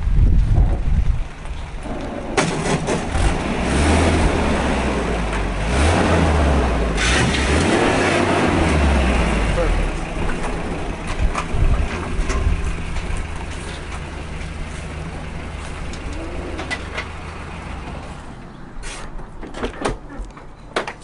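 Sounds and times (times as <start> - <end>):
pickup truck engine running: 0.0 - 18.6.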